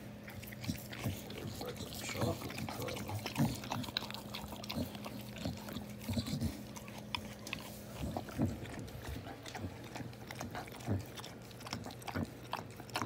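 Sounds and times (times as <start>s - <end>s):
dog licking and snuffling: 0.0s - 13.0s
dog grunting: 0.3s - 13.0s.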